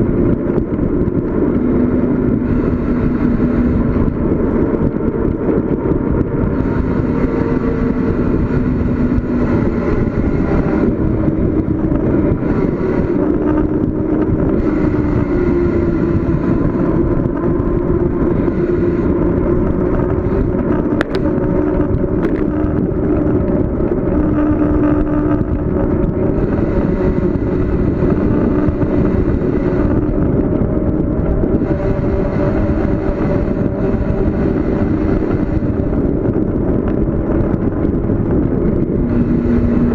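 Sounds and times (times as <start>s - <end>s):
wind rush on microphone: 0.0s - 39.9s
faint hum: 1.4s - 39.9s.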